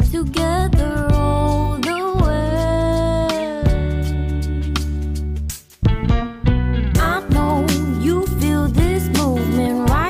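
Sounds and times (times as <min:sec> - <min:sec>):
bass and drums: 0:00.0 - 0:10.0.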